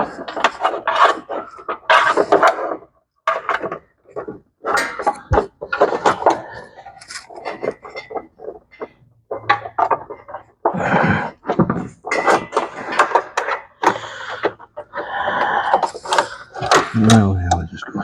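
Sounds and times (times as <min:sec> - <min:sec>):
parts and tools handled: 0:00.0 - 0:17.6
scraping: 0:00.0 - 0:17.7.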